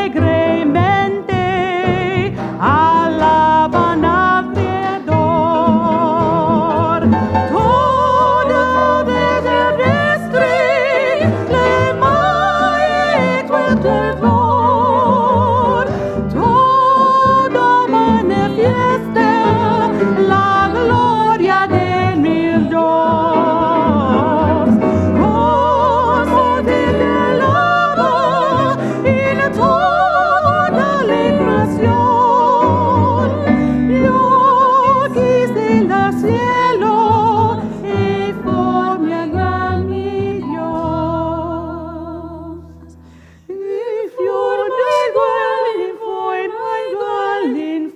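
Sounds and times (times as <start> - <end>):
small jazz band: 0.0 - 43.4
women singing in harmony: 0.0 - 47.9.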